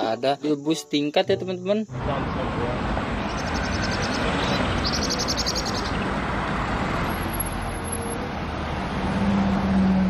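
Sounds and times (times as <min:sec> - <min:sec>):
bus engine and road noise: 0:01.9 - 0:10.0.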